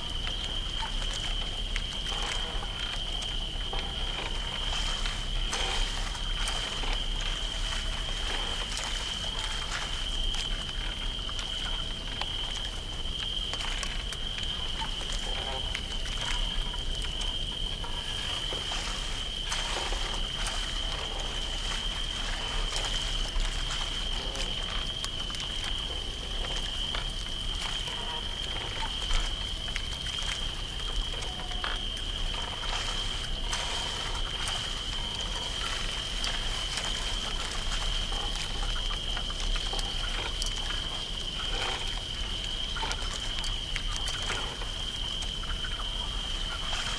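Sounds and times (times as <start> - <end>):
cricket chorus: 0.0 - 46.9
frogs croaking: 0.0 - 46.9
trickling water: 0.0 - 46.9.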